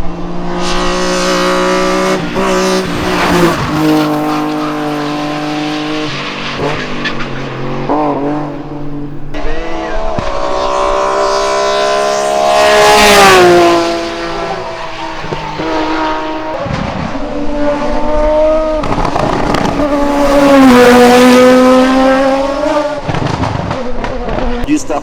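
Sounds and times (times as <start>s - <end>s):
race car engines passing by: 0.0s - 25.0s.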